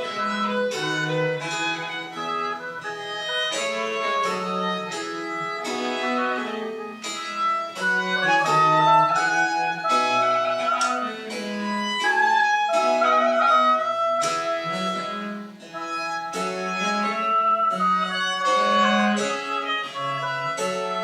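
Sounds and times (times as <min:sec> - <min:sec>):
baroque chamber ensemble playing: 0:00.0 - 0:21.0.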